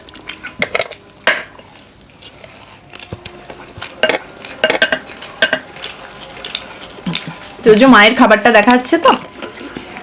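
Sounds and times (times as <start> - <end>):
utensils and dishes clinking: 0.0 - 10.0.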